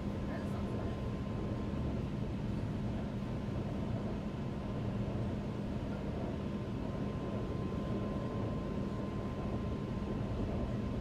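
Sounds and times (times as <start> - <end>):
train rumbling at speed: 0.0 - 11.0.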